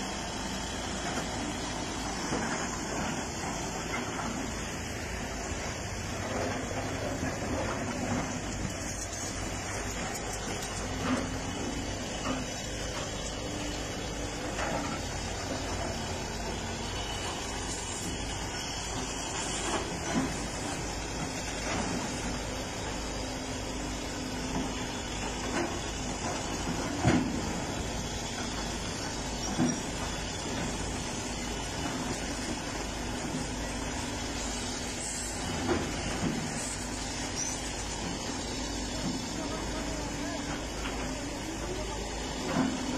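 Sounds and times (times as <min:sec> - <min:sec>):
diesel machinery running: 0:00.0 - 0:42.9.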